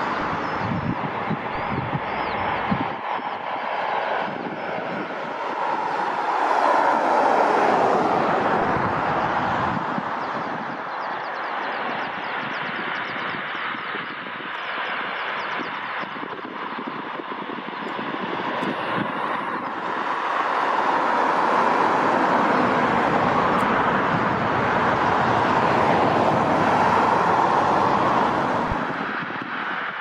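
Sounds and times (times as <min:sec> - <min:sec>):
jet engines taxiing: 0:00.0 - 0:30.0.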